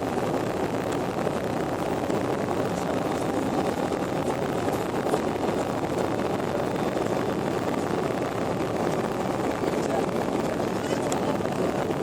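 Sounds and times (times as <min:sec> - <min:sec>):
airliner drone: 0:00.0 - 0:12.0.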